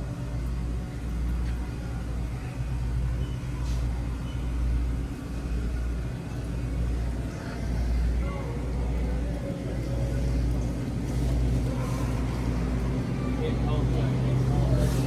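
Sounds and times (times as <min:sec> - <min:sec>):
large vehicle engine rumbling: 0:00.0 - 0:15.0.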